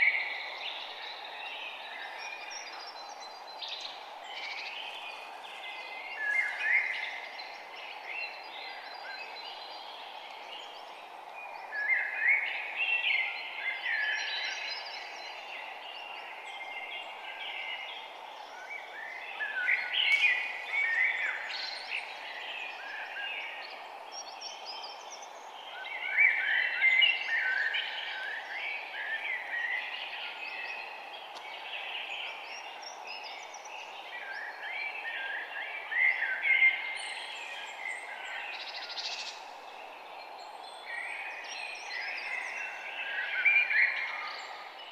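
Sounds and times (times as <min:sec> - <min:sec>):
birds chirping and singing: 0:00.0 - 0:44.9
steady background hiss: 0:00.0 - 0:44.9.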